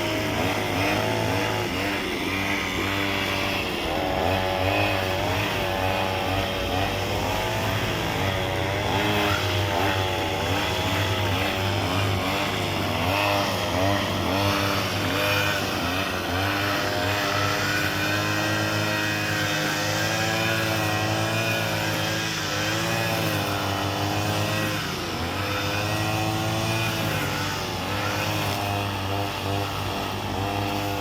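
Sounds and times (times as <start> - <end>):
lawnmower engine running: 0.0 - 31.0.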